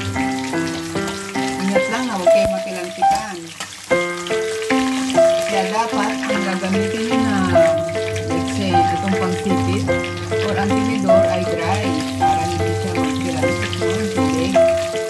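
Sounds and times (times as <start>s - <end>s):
background music of held notes: 0.0s - 15.0s
ribs sizzling in hot oil: 0.0s - 15.0s.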